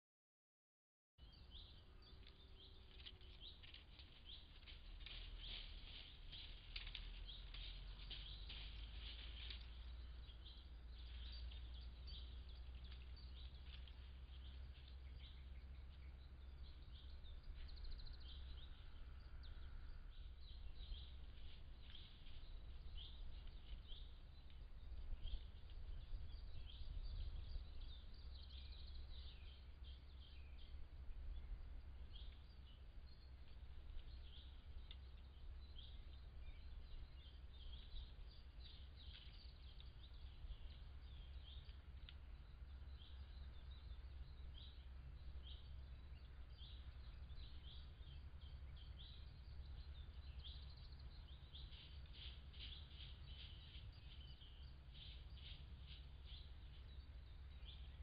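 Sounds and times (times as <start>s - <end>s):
faint low rumble: 1.2s - 58.0s
small birds chirping: 1.2s - 58.0s.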